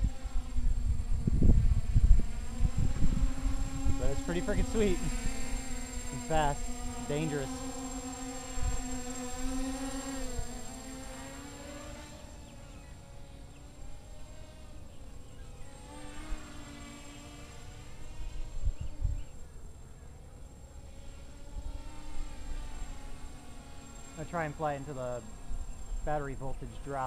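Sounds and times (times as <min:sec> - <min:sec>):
quadcopter motors buzzing: 0:00.0 - 0:27.0.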